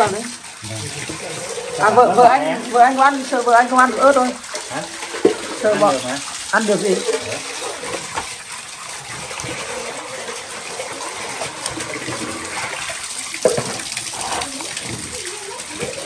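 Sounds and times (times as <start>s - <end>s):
water running and pouring: 0.0s - 16.0s.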